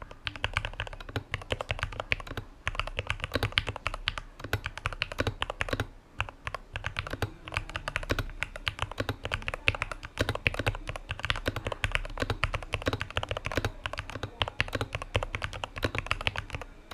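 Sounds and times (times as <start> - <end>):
mechanical keyboard typing: 0.0 - 16.9.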